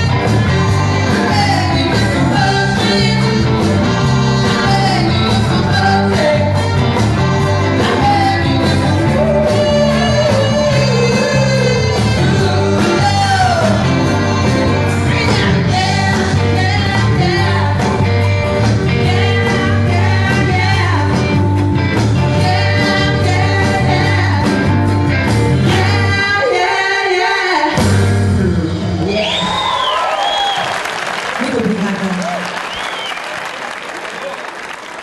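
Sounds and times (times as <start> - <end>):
lead singer: 0.0 - 29.4
live rock band: 0.0 - 33.5.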